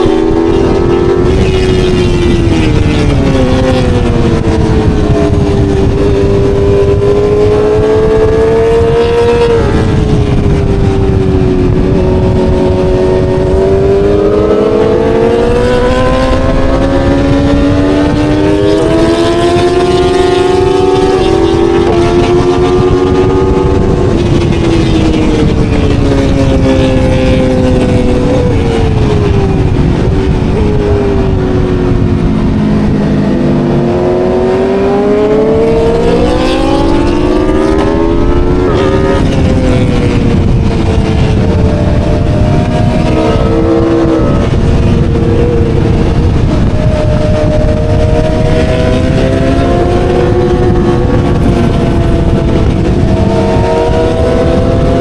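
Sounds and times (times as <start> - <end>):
low wind rumble: 0.0 - 55.0
motorcycle engine revving: 0.0 - 55.0.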